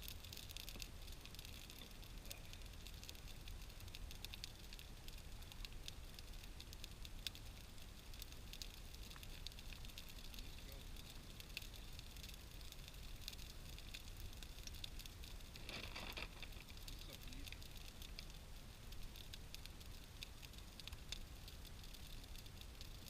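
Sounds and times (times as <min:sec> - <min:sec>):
faint low rumble: 0:00.0 - 0:23.0
wood fire crackling: 0:00.0 - 0:23.0.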